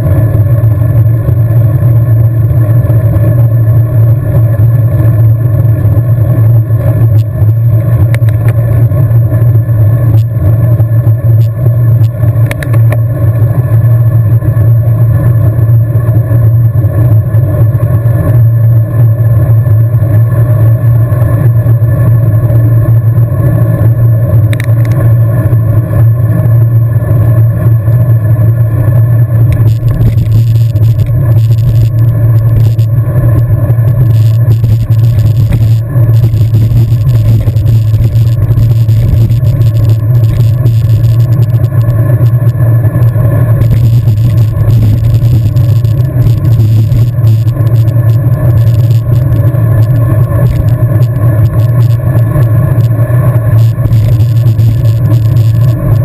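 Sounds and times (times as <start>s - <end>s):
low rumble: 0.0s - 56.0s
wind and tyre noise: 0.0s - 56.0s.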